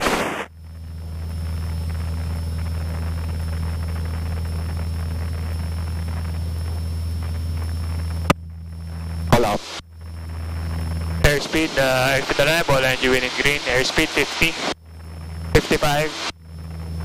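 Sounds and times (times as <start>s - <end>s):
aircraft engine droning: 0.5s - 17.0s.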